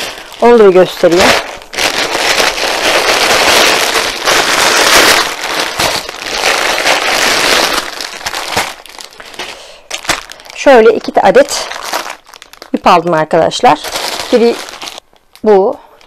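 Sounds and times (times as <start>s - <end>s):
plastic mailer bag crinkling: 0.0s - 15.8s.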